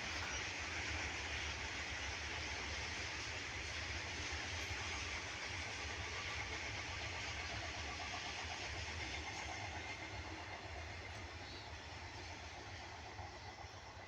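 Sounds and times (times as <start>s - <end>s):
train rumbling along track: 0.0s - 14.0s.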